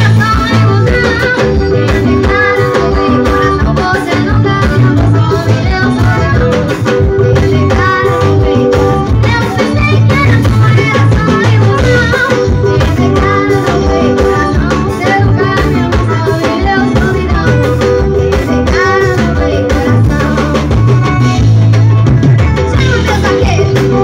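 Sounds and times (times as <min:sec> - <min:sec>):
person singing: 0:00.0 - 0:21.4, 0:22.3 - 0:24.0
bass: 0:00.0 - 0:24.0
drums: 0:00.0 - 0:24.0
plucked guitar: 0:00.0 - 0:24.0.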